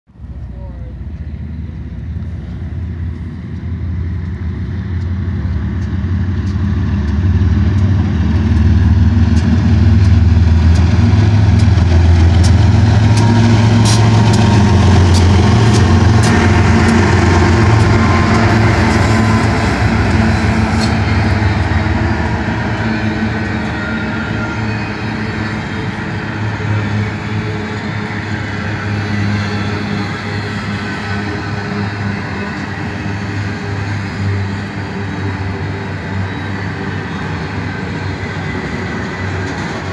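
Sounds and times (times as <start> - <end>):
diesel locomotive engine drone: 0.1 - 39.9
train wheels clicking on rails: 1.1 - 39.9.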